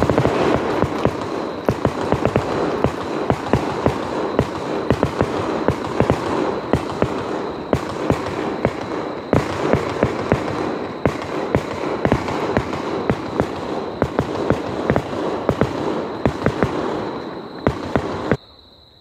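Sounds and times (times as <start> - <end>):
fireworks bangs: 0.0 - 18.4
background haze: 0.0 - 19.0.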